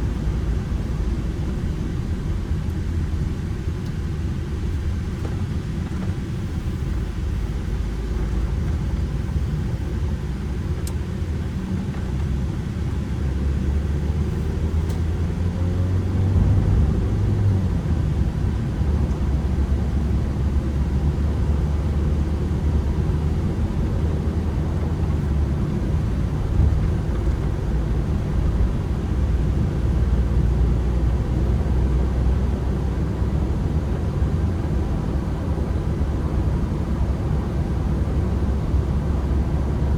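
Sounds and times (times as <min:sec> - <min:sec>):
road rumble: 0:00.0 - 0:39.9
van engine running: 0:00.0 - 0:39.9.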